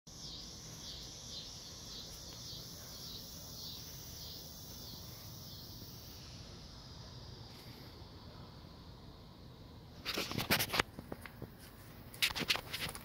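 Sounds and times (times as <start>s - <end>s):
insects buzzing in pulses: 0.1s - 13.0s.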